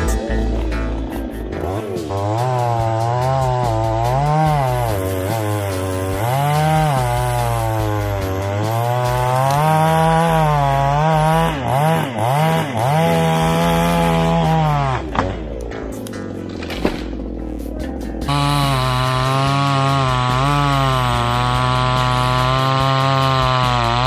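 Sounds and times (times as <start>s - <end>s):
chainsaw revving: 0.1s - 15.6s, 18.2s - 24.0s.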